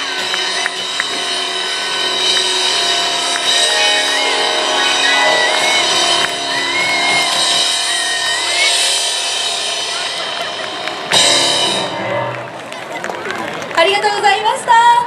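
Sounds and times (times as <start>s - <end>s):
held keyboard chords: 0.0s - 13.3s.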